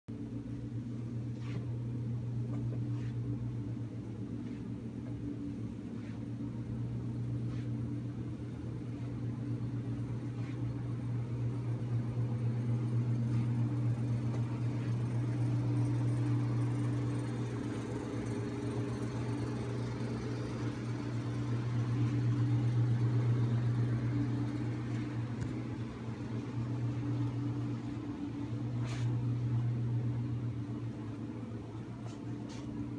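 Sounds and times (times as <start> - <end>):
low mechanical hum: 0.1 - 32.9.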